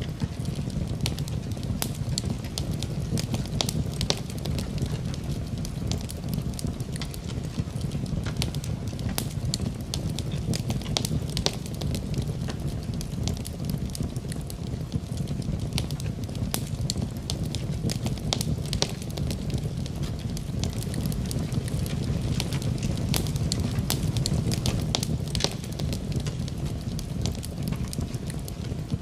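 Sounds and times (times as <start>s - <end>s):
fireplace fire crackling: 0.0s - 29.0s.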